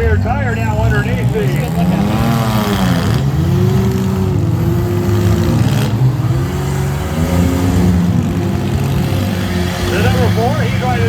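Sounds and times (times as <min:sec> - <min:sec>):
van engines revving: 0:00.0 - 0:11.0.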